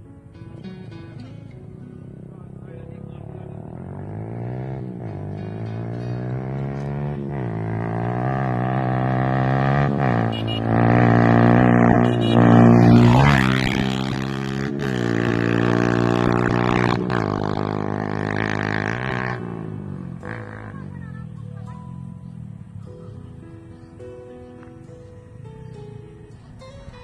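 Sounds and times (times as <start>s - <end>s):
motorcycle engine revving: 2.0s - 27.0s.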